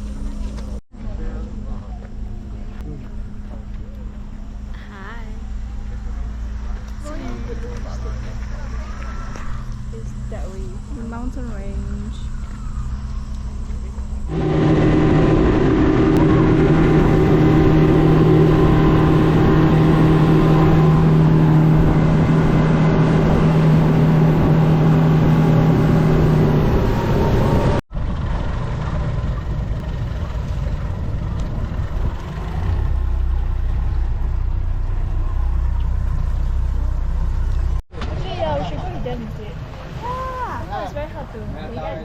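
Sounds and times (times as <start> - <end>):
motor engine droning: 0.0 - 42.0.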